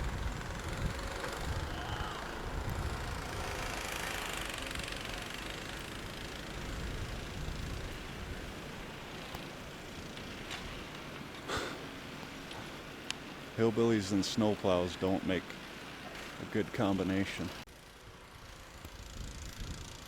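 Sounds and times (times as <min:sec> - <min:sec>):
truck engine rumbling: 0:00.0 - 0:17.7.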